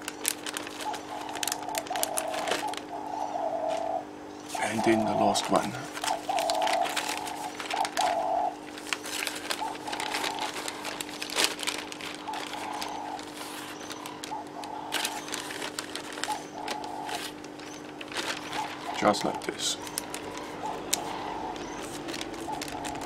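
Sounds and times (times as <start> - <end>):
plastic bag crinkling: 0.0 - 2.9, 5.3 - 23.0.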